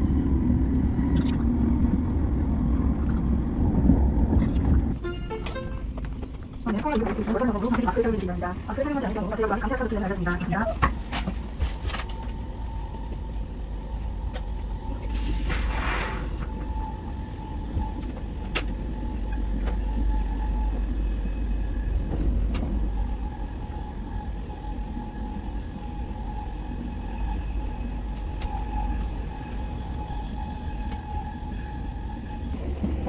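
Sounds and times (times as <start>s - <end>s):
train rumble from inside carriage: 0.0s - 33.0s.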